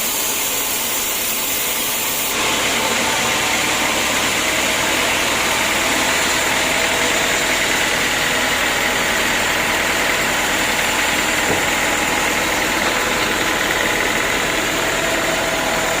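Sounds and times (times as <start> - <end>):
sawmill machinery humming: 0.0 - 16.0.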